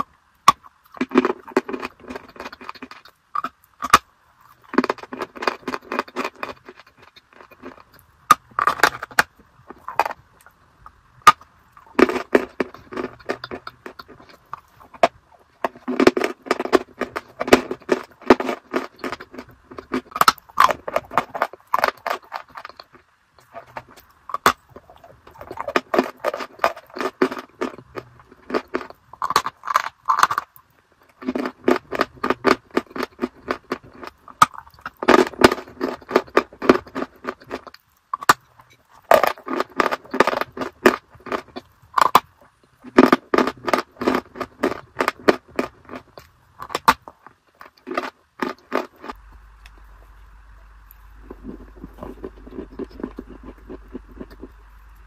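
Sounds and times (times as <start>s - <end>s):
crunchy food being chewed: 0.0s - 55.0s.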